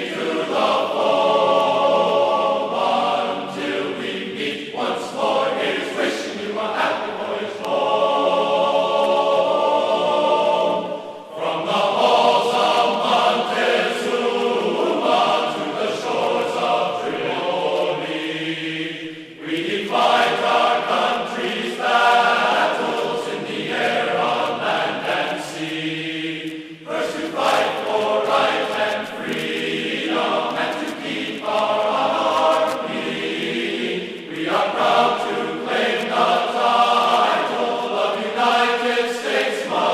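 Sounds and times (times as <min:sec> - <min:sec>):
choir-like sustained voices: 0:00.0 - 0:39.9.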